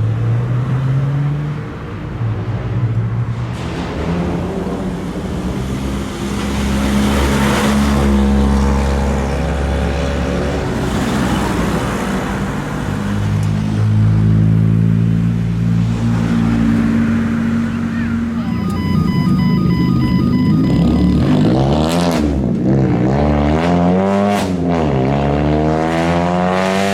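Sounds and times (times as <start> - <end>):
cars with loud exhaust driving away: 0.0 - 26.9.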